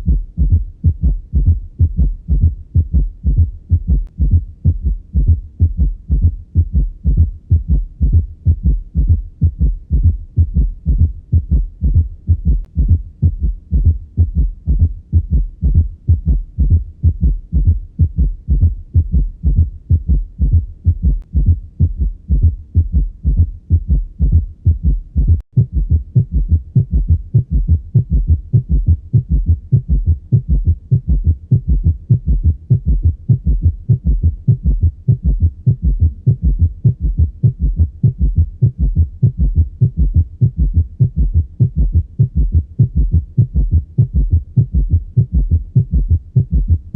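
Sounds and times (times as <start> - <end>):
heartbeat thuds: 0.0 - 46.9.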